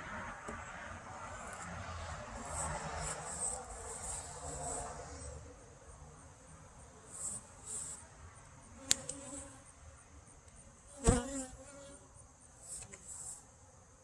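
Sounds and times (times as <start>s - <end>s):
high insect trill: 0.6s - 14.0s.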